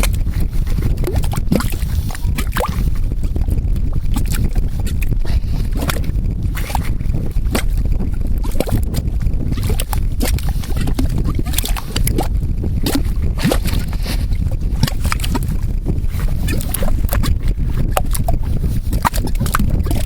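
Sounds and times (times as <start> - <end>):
low rumble: 0.0 - 20.0
mud pot bubbling: 0.0 - 20.0.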